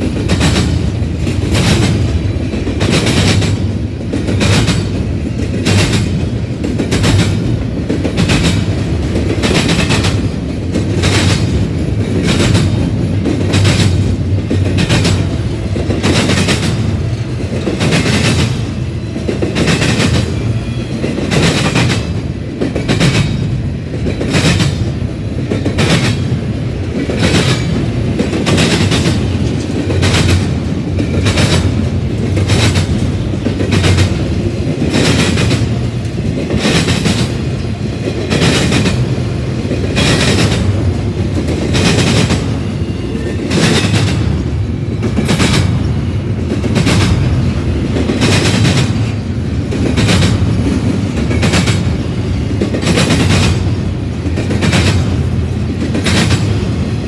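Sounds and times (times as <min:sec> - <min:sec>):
train rumbling past: 0:00.0 - 0:57.0
train wheel clacks: 0:00.0 - 0:57.0.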